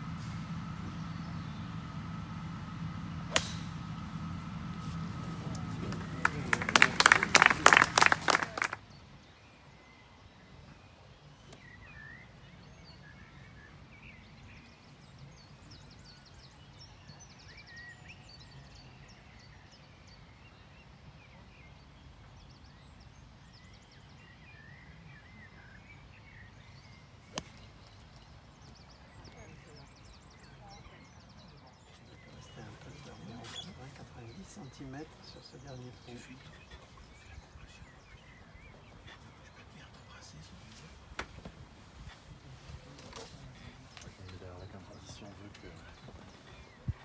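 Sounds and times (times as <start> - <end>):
small birds chirping: 8.8 - 47.0.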